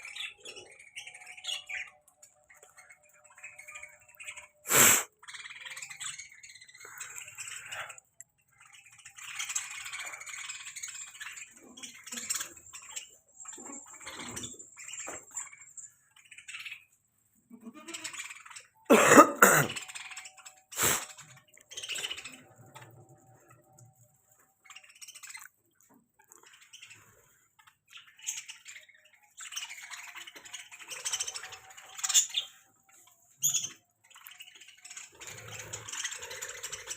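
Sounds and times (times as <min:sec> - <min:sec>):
budgerigars chattering and chirping: 0:00.0 - 0:36.9.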